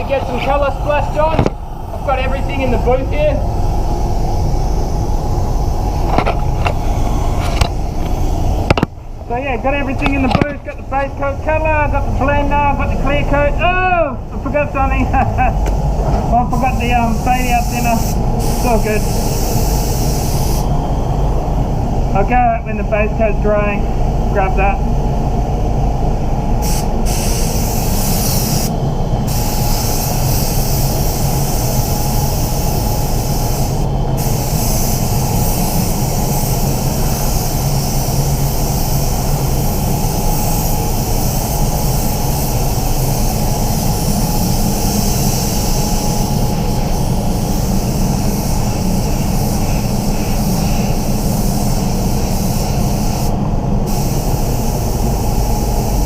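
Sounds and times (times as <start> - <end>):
spray gun air hiss: 0.0 - 9.8, 14.2 - 21.9, 26.6 - 56.0
spray booth fans rumbling: 0.0 - 56.0.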